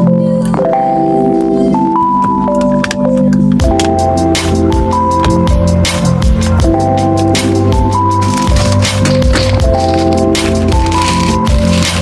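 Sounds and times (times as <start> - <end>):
simple melody over chords: 0.0 - 12.0.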